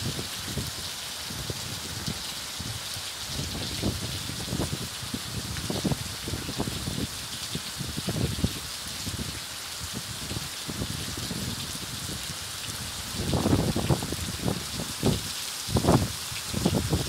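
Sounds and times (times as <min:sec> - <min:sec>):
rain falling on ground and puddles: 0:00.0 - 0:17.0.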